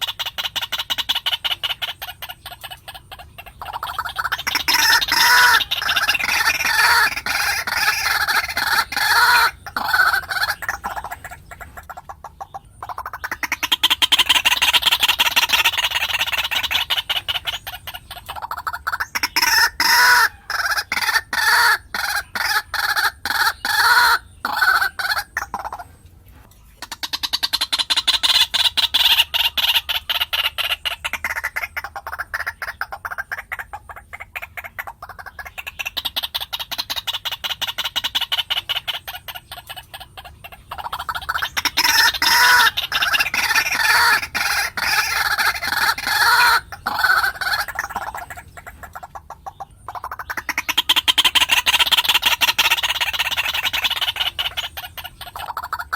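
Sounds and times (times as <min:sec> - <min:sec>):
waterhen croaking calls: 0:00.0 - 0:55.9.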